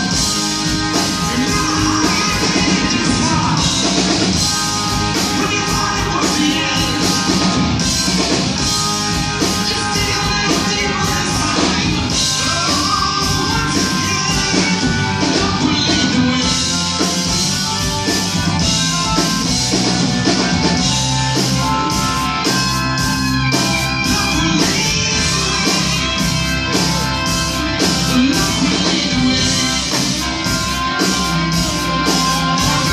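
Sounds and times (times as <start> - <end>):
person singing: 0.0 - 19.6, 21.3 - 32.9
drum kit: 0.0 - 32.9
electric guitars: 0.0 - 32.9
keyboards: 0.0 - 32.9.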